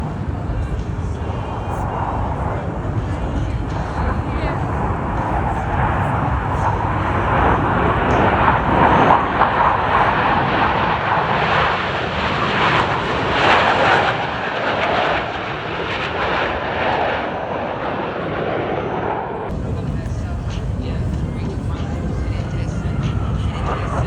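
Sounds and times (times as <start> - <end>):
jet aircraft engine roar: 0.0 - 24.0.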